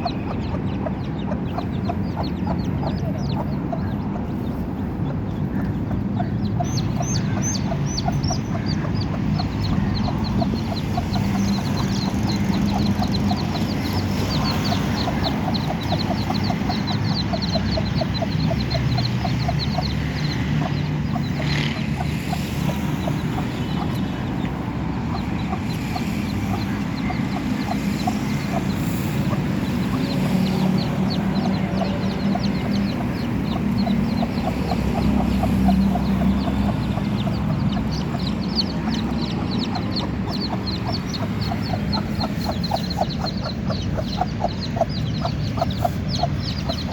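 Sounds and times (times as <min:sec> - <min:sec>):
chicks peeping: 0:00.0 - 0:46.9
hen clucking: 0:00.0 - 0:46.9.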